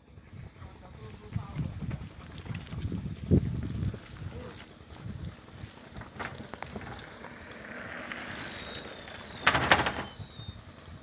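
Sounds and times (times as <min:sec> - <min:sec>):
bicycle rattling: 0:01.6 - 0:11.0.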